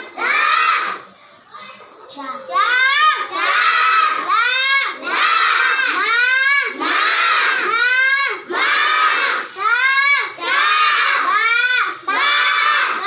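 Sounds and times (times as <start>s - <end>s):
children chanting: 0.0s - 13.0s.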